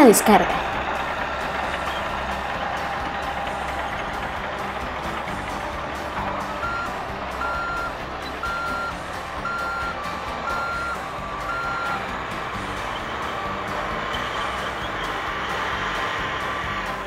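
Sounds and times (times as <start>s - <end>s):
engine hum: 0.0s - 17.0s
reversing alarm beeping: 1.4s - 16.0s.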